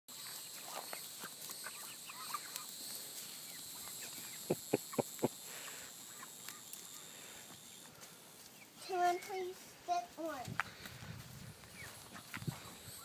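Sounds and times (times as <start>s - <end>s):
chickens clucking and chirping: 0.1s - 13.0s.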